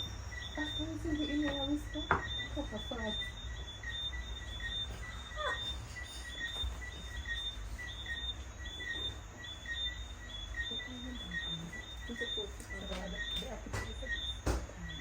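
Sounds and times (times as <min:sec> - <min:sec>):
high chirping: 0:00.0 - 0:15.0.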